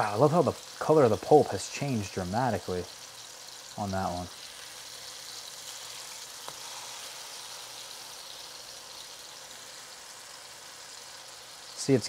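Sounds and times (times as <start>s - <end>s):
figs sizzling in oil: 0.0s - 12.0s.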